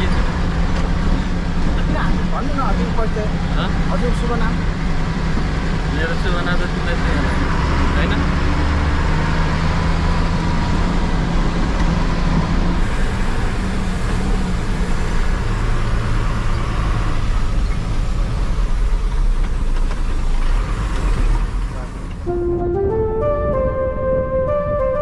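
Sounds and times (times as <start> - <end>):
bus engine running: 0.0 - 25.0
road noise rumble: 0.0 - 25.0.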